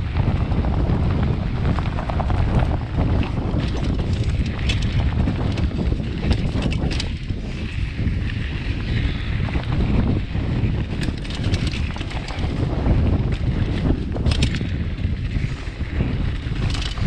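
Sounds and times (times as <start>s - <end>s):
wind rumble on microphone: 0.0s - 17.0s
bike chain clattering: 2.5s - 17.0s.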